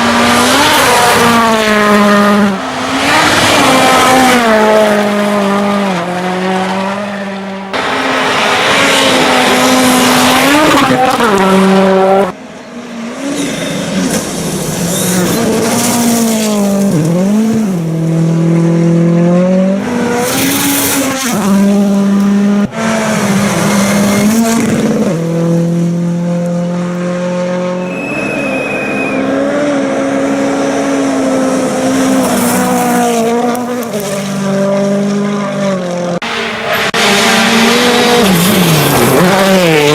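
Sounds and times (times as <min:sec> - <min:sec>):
racing engines at high revs: 0:00.0 - 0:39.9.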